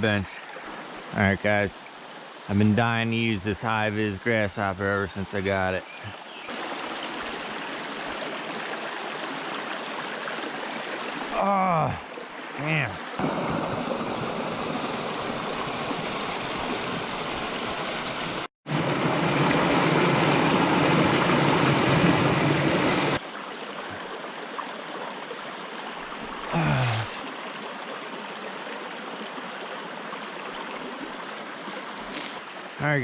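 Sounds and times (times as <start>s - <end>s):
mountain stream rushing: 6.4s - 33.0s.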